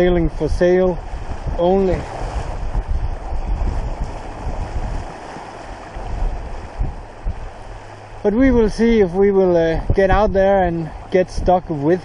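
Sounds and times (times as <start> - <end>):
water rushing along hull: 0.0 - 12.0
wind gusting on microphone: 0.0 - 12.0.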